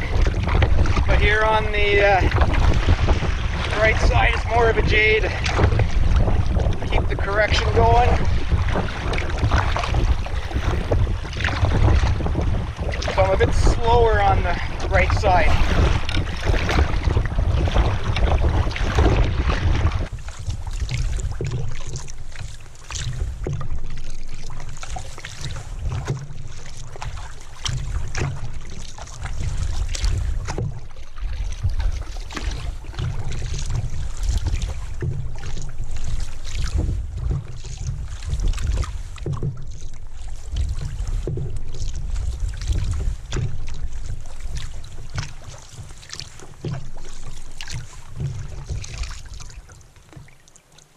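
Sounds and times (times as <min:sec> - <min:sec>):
wind rumble on microphone: 0:00.0 - 0:50.3
paddle clunking against boat: 0:00.0 - 0:50.9
paddle strokes splashing water: 0:00.0 - 0:50.9.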